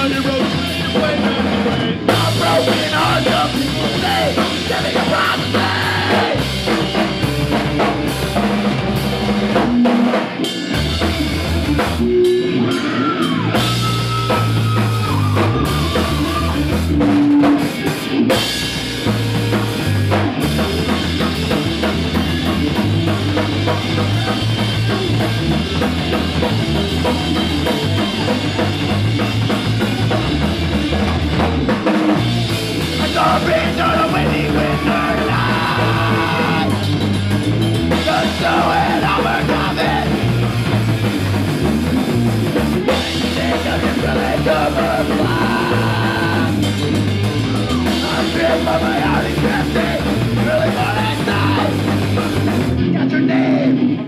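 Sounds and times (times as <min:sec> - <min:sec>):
drum kit: 0:00.0 - 0:53.0
bass line: 0:00.0 - 0:54.0
punk rock band playing: 0:00.0 - 0:54.0.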